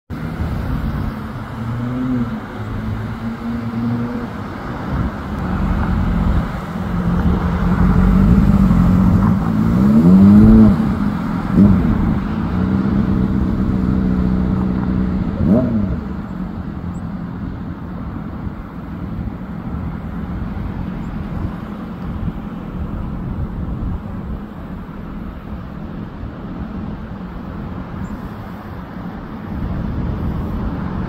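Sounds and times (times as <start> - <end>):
vehicle engines revving: 0.1 - 31.0.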